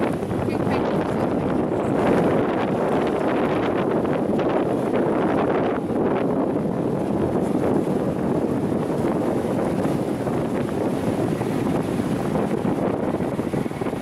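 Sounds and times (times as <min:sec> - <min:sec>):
choppy water rushing: 0:00.0 - 0:14.0
wind buffeting microphone: 0:00.0 - 0:14.0.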